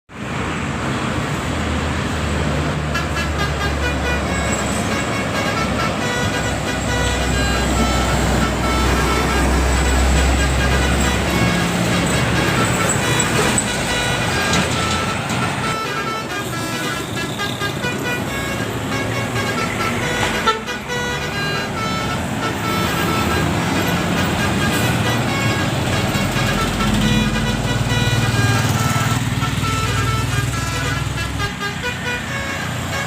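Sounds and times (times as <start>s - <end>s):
bus engine running: 0.1s - 33.0s
multi-tone bus horn melody: 2.0s - 33.0s.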